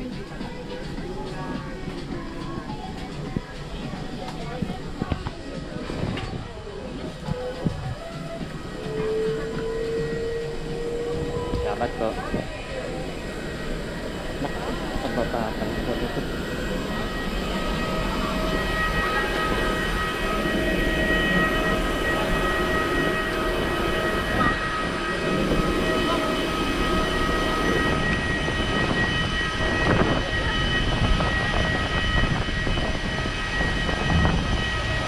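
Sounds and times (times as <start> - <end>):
engine noise with high whine: 0.0 - 35.0.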